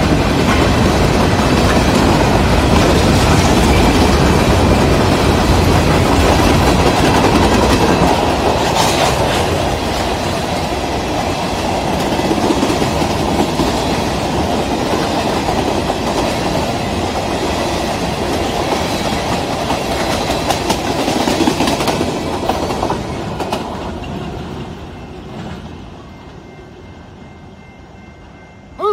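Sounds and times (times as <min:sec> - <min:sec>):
steel wheels clattering on rails: 0:00.0 - 0:26.4
freight train passing: 0:00.0 - 0:28.9.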